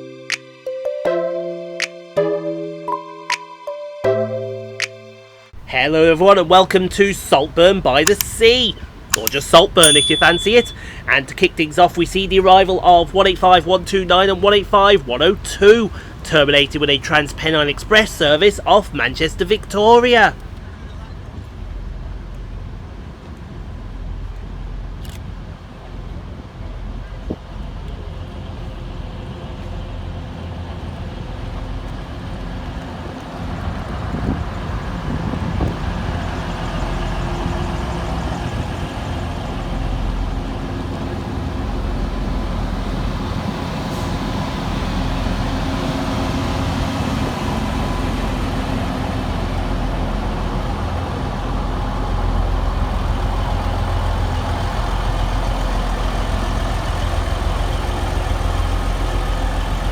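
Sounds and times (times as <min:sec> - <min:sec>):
diesel engines rumbling: 0:05.5 - 0:59.9.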